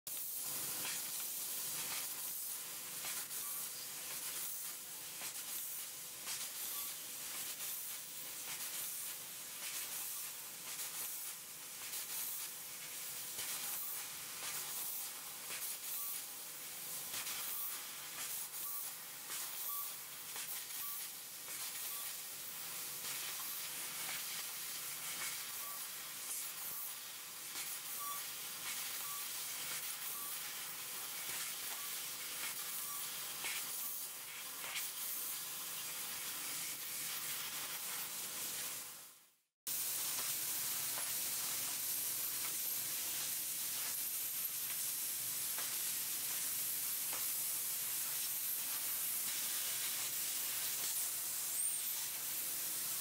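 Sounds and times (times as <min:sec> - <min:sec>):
laser cutter gas hissing and popping: 0:00.1 - 0:53.0.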